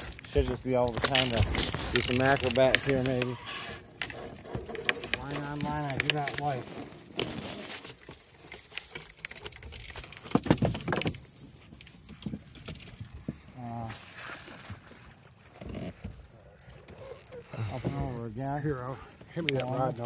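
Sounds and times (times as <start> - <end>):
fishing gear knocking and rattling: 0.0 - 20.0.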